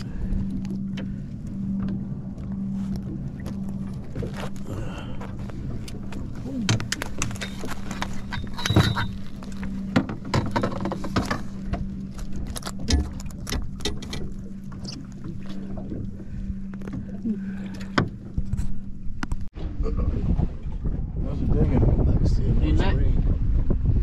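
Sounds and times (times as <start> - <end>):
boat engine hum: 0.0 - 24.0.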